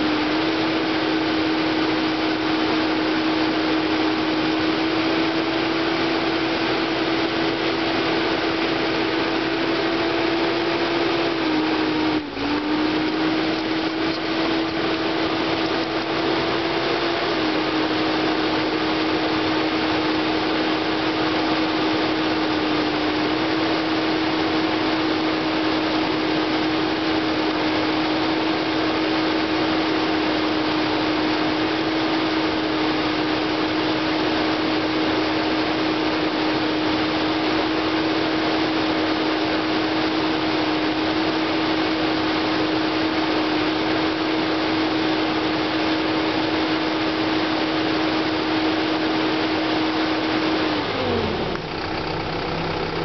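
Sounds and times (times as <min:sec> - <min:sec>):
excavator diesel engine humming: 0:00.0 - 0:53.0.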